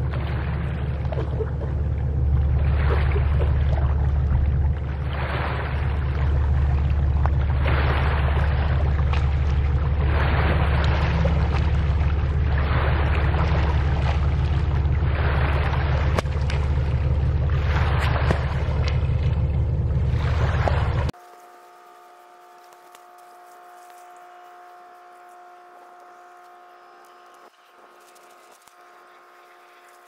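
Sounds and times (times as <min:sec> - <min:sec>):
ship engine drone: 0:00.0 - 0:30.0.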